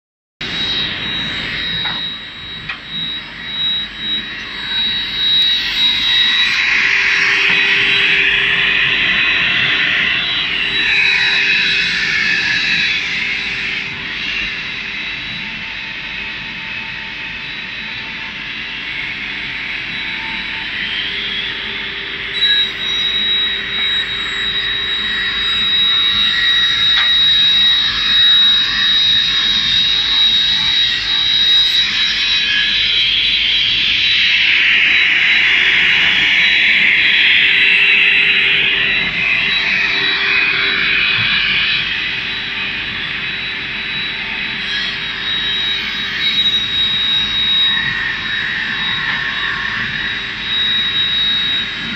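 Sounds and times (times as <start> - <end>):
rip saw whining: 0.4 - 14.4, 22.4 - 51.9.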